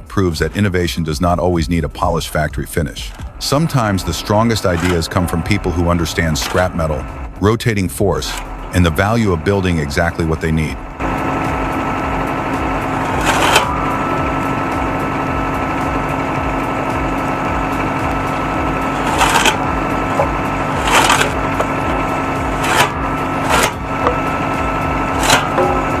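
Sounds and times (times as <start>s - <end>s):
wood chipper humming: 0.0s - 26.0s.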